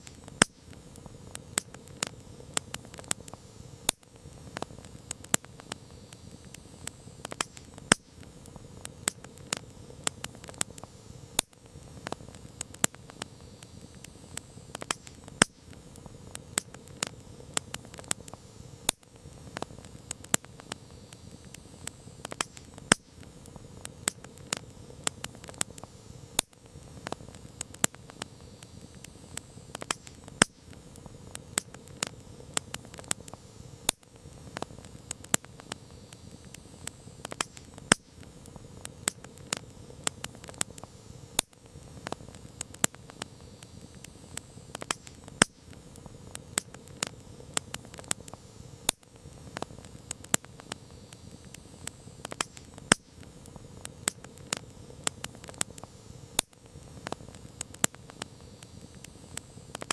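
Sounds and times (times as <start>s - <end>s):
campfire crackling: 0.0s - 59.9s
low rush of flames: 0.0s - 59.9s.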